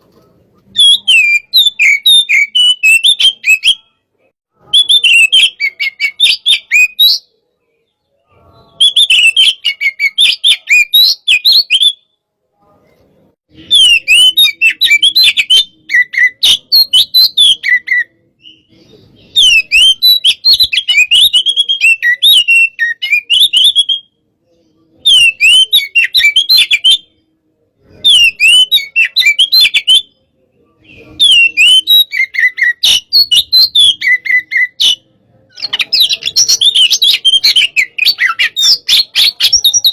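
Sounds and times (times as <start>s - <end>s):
songbird whistling and chattering: 0.7s - 4.0s, 4.6s - 7.4s, 8.3s - 12.1s, 13.5s - 24.2s, 24.8s - 27.2s, 28.0s - 30.2s, 30.8s - 39.9s.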